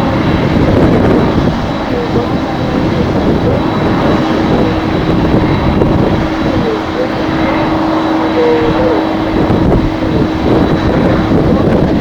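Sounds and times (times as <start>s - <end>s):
jet engines humming and whining: 0.0s - 12.0s
wind buffeting microphone: 0.0s - 12.0s.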